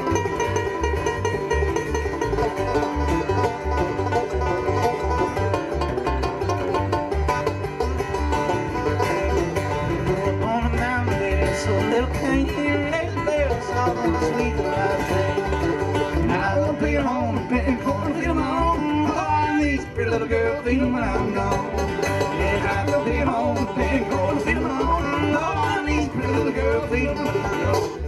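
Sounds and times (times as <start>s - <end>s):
banjo picking: 0.0s - 28.0s
bluegrass band playing: 0.0s - 28.0s
upright bass plucking: 0.0s - 28.0s.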